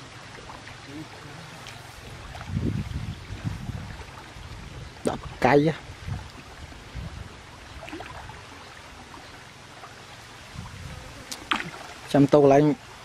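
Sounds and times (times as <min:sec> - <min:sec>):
muddy water sloshing: 0:00.0 - 0:12.4.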